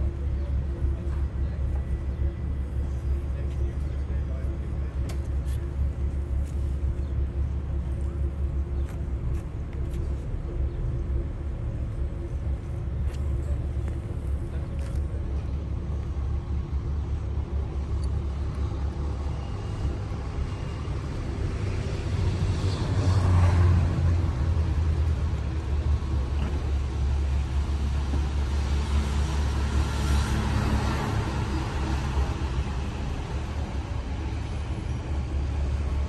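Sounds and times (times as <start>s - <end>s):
low engine rumble: 0.0s - 36.0s.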